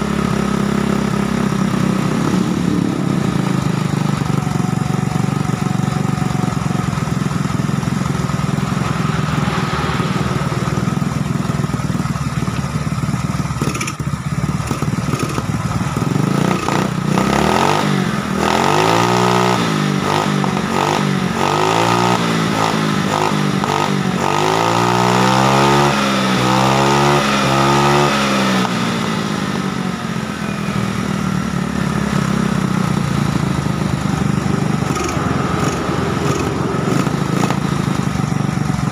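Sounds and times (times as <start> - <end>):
scooter engine running and revving: 0.0 - 38.9.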